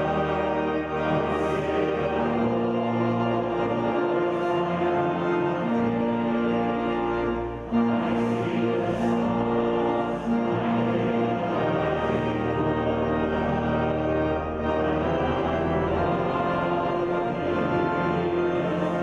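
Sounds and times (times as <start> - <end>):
congregation singing a hymn: 0.0 - 19.0
organ: 0.0 - 19.0.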